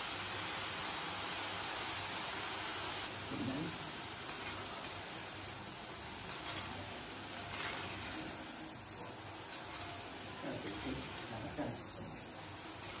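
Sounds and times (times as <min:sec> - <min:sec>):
batter frying in hot oil: 0:00.0 - 0:13.0.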